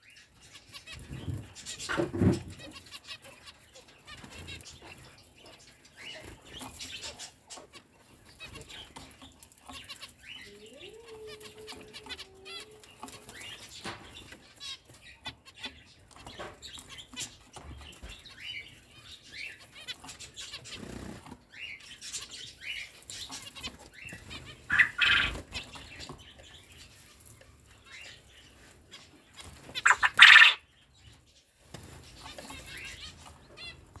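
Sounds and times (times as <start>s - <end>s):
finches chirping: 0.0s - 31.4s.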